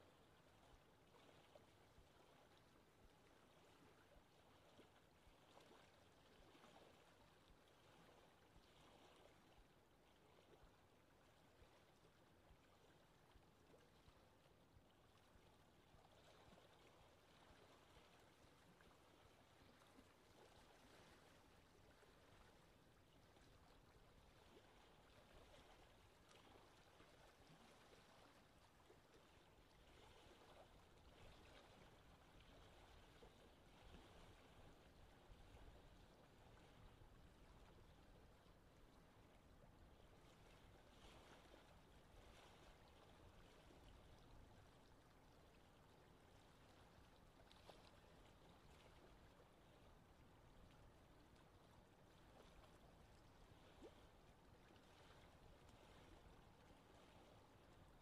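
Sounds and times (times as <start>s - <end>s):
light water sounds: 0.0s - 58.0s
wind: 0.0s - 58.0s.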